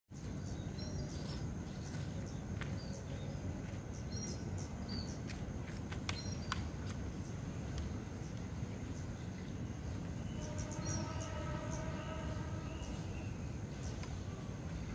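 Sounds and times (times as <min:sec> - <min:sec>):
steady low rumble: 0:00.2 - 0:14.9.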